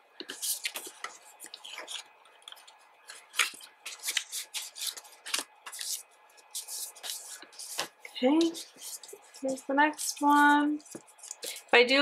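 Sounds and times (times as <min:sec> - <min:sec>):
papery rustles and scrapes: 0:00.2 - 0:11.8.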